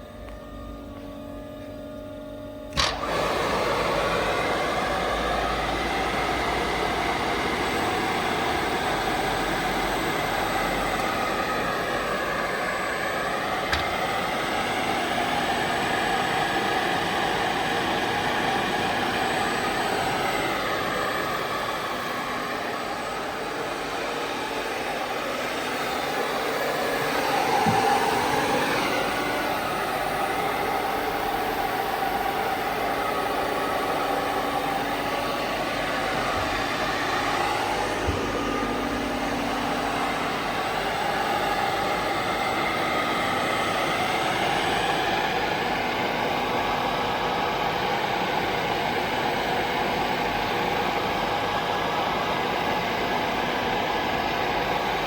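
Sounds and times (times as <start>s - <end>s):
grinder machine humming: 0.0s - 48.6s.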